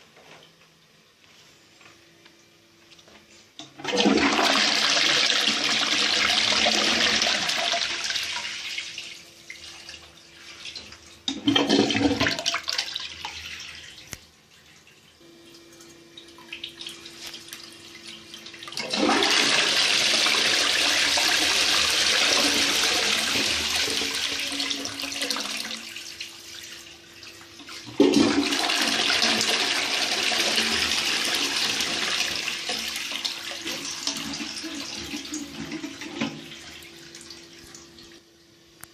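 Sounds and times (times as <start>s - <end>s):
toilet flushing: 3.6s - 38.3s.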